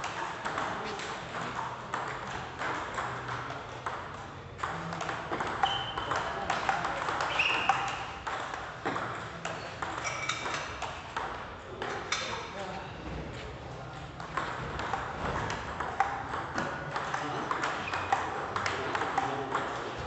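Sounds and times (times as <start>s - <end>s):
ping pong ball clicking off paddles: 0.0s - 12.5s, 13.9s - 20.0s
ball bouncing on table: 0.1s - 12.4s, 14.2s - 20.0s.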